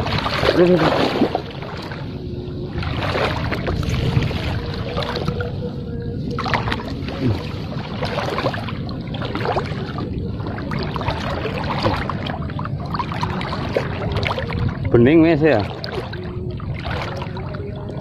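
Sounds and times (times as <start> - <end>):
water splashing around wading legs: 0.0 - 18.0.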